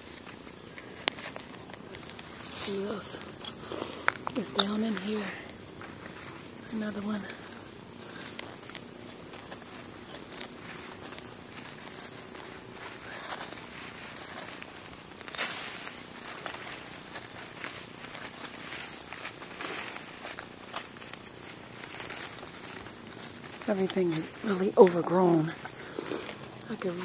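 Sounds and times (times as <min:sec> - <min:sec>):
hand tool digging in soil: 0:00.0 - 0:27.0
insects trilling: 0:00.0 - 0:27.0.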